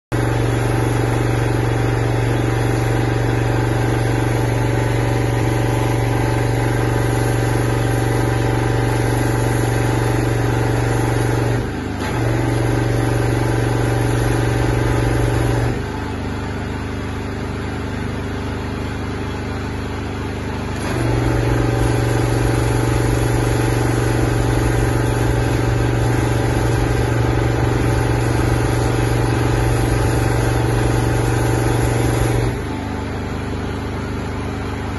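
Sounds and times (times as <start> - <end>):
pressure-washer engine running: 0.1 - 34.9
water jet spraying roof tiles: 0.2 - 16.2, 20.7 - 34.9.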